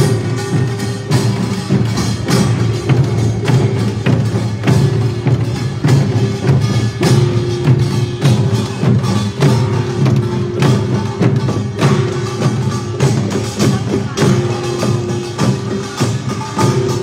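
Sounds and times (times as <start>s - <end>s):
percussion band drumming: 0.0s - 17.0s.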